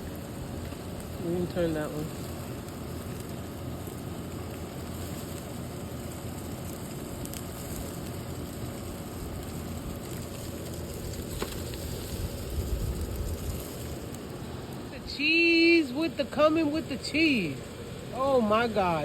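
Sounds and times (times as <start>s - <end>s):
patties sizzling on a grill: 0.0s - 19.0s.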